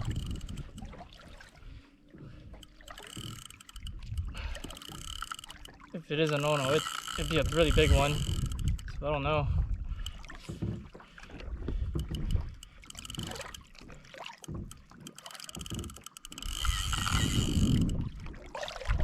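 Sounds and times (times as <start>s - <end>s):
clicks and knocks on boat: 0.0s - 1.0s, 2.2s - 9.0s, 9.9s - 18.2s.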